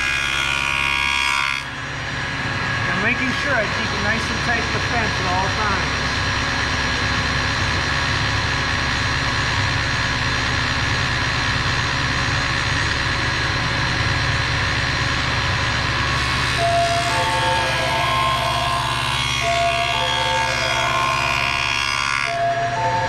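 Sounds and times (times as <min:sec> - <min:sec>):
table saw running: 0:00.0 - 0:23.0.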